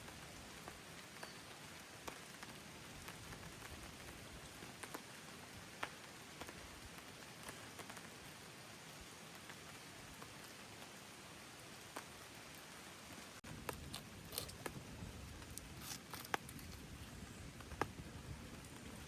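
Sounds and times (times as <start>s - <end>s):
light rain falling: 0.0s - 19.0s
rain patter with drips: 0.0s - 19.0s.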